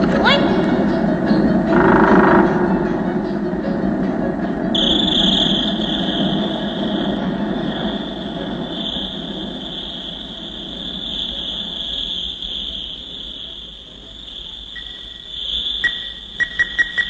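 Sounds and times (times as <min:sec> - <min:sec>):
hissing rumble: 0:00.0 - 0:16.4
high-pitched insect-like drone: 0:00.0 - 0:17.0.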